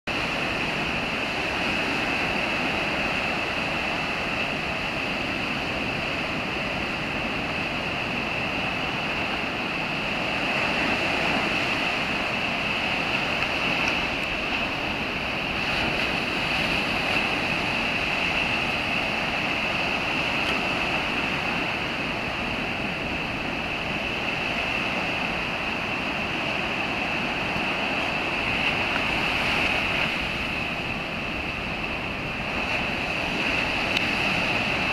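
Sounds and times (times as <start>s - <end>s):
heavy surf breaking on beach: 0.0s - 34.9s.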